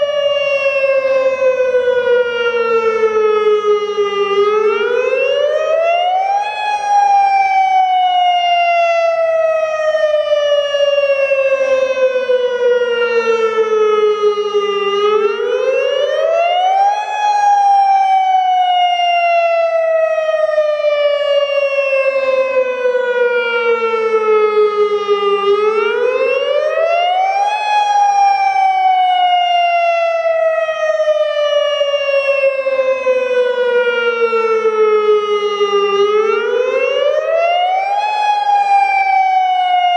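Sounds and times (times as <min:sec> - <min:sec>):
wailing warning siren: 0:00.0 - 0:39.9.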